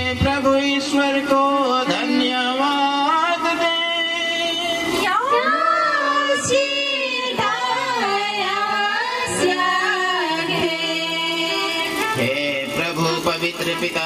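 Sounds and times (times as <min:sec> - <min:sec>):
choir and congregation singing: 0:00.0 - 0:14.0.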